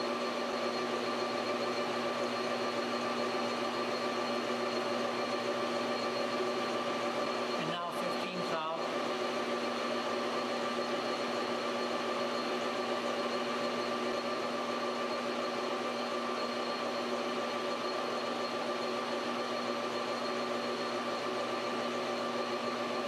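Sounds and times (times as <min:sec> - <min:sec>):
metal lathe running: 0:00.0 - 0:23.0.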